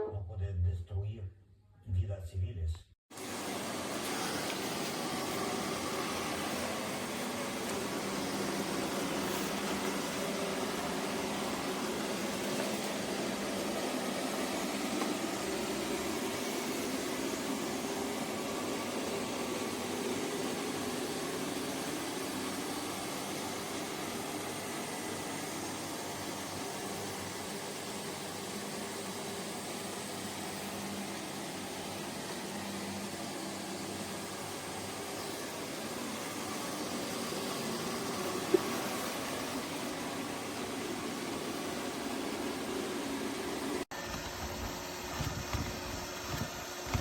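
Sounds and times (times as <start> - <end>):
machine humming and hissing: 3.1 - 47.0.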